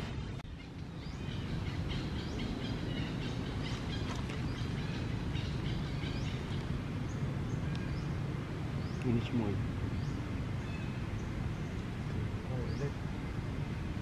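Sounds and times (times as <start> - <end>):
small birds chirping: 0.1 - 13.5.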